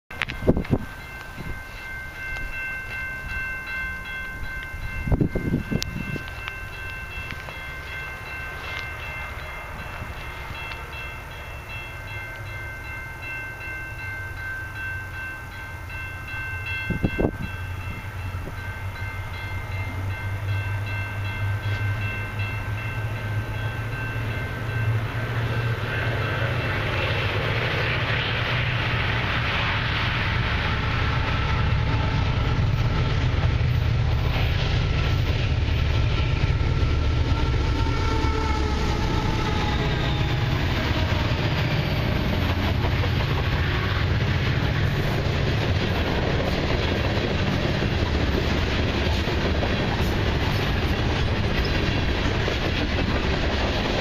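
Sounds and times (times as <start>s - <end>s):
diesel locomotive rumble: 0.1s - 54.0s.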